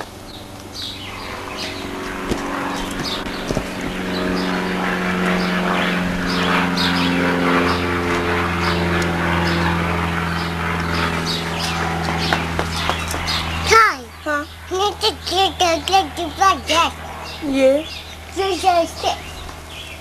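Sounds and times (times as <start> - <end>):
low mechanical drone: 0.0 - 20.0.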